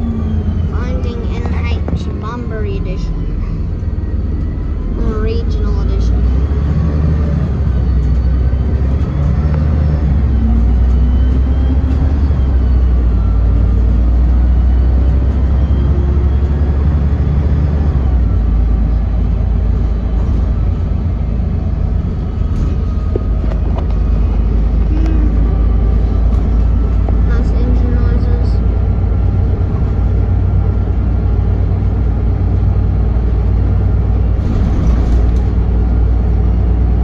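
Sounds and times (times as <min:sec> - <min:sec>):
bus engine drone: 0:00.0 - 0:37.0
road and tyre noise: 0:00.0 - 0:37.0.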